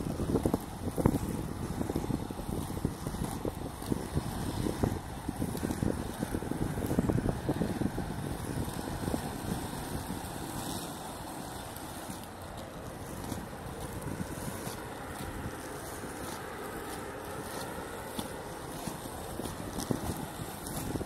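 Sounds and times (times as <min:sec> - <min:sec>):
skate wheels rolling on pavement: 0:00.0 - 0:21.0
wind buffeting microphone: 0:00.0 - 0:21.0.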